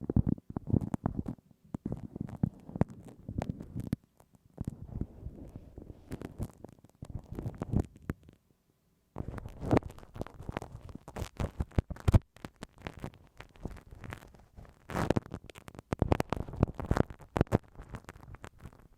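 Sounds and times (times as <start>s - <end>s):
ear pick scraping microphone: 0.0s - 8.4s, 9.2s - 18.9s.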